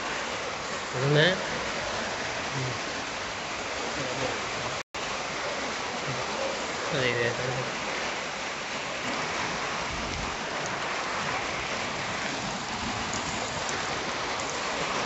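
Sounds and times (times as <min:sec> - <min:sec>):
rain on concrete: 0:00.0 - 0:15.0.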